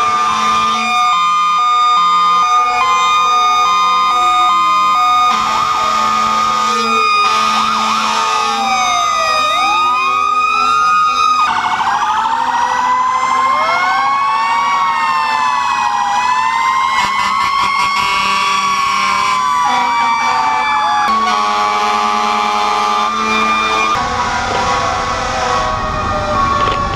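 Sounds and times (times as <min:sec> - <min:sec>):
fire engine sirens wailing: 0:00.0 - 0:26.9
siren warbling yelp: 0:00.0 - 0:26.9.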